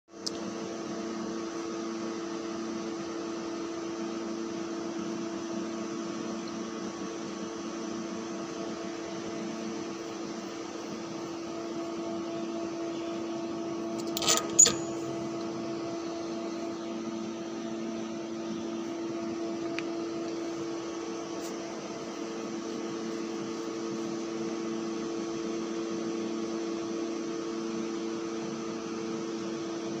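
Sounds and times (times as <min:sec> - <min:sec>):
electrical machinery hum: 0:00.1 - 0:30.0.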